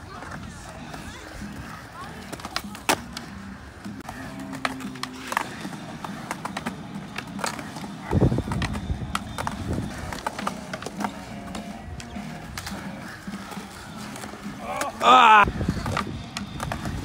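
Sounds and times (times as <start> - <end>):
skateboard clacks: 0.0 - 17.0
wheels rumbling on concrete: 0.0 - 17.0.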